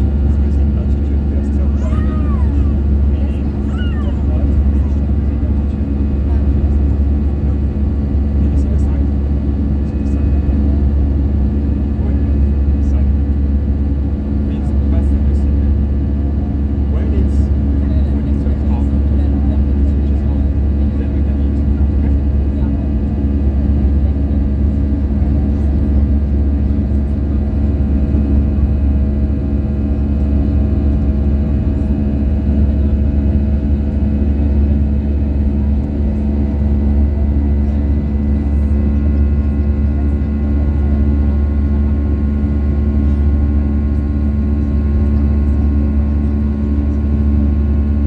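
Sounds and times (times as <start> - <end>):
jet engine drone in cabin: 0.0 - 48.0.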